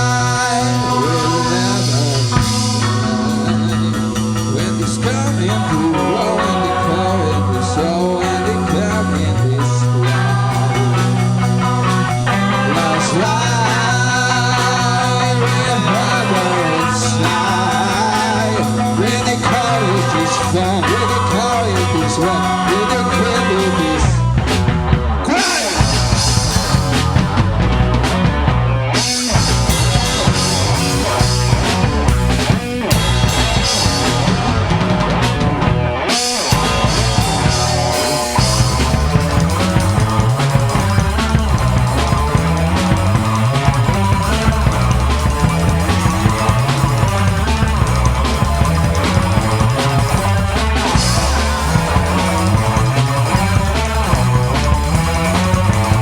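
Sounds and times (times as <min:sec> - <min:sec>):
bass guitar: 0:00.0 - 0:56.0
drums with fast cymbal beat: 0:00.0 - 0:56.0
electric guitar melody: 0:00.0 - 0:56.0
rock band playing: 0:00.0 - 0:56.0.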